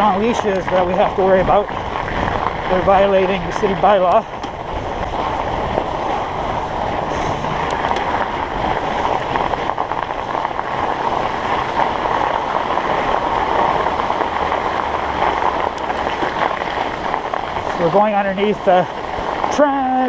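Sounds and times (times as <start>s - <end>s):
studded bike tyres rolling: 0.0s - 20.0s.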